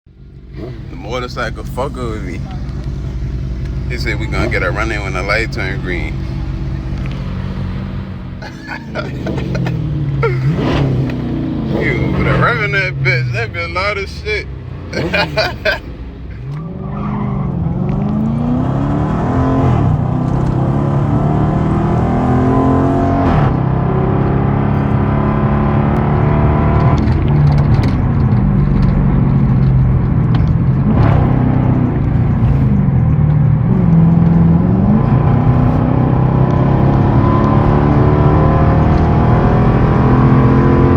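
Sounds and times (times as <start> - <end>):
motorbike engine at full throttle: 0.4 - 13.5, 17.9 - 40.9.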